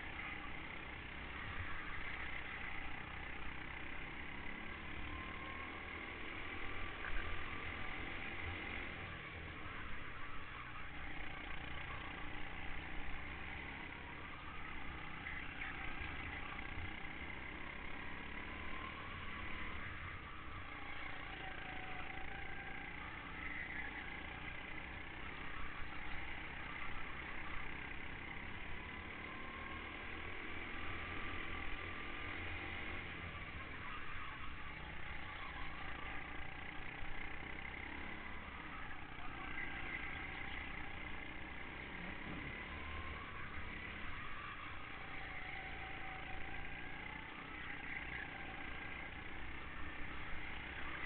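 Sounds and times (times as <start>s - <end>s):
go-kart engine running: 0.0s - 51.0s
road and wind noise: 0.0s - 51.0s.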